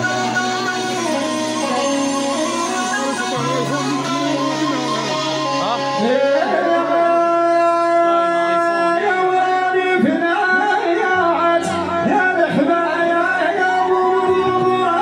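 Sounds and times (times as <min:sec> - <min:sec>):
instrumental backing with drone: 0:00.0 - 0:15.0
man singing into a microphone: 0:00.0 - 0:15.0.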